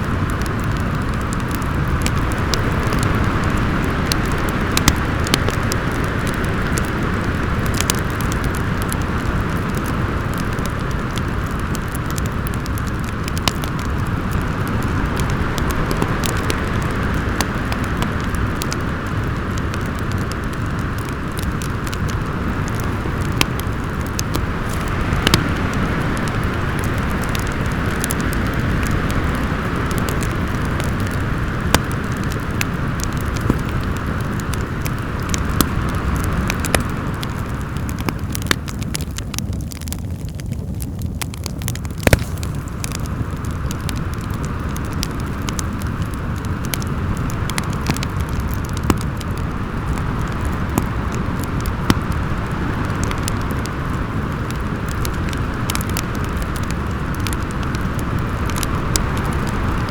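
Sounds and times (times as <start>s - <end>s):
steady wind: 0.0s - 59.9s
wood fire crackling and popping: 0.0s - 59.9s.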